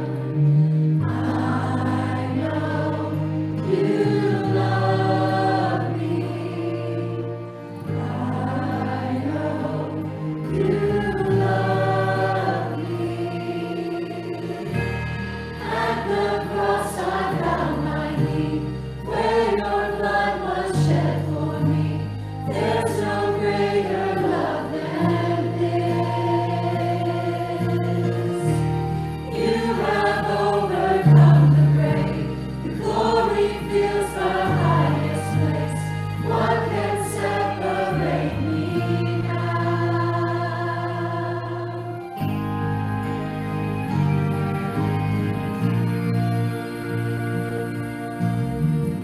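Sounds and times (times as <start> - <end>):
church choir singing: 0.0 - 49.0
instrumental accompaniment: 0.0 - 49.0
sustained bass notes: 0.0 - 49.0.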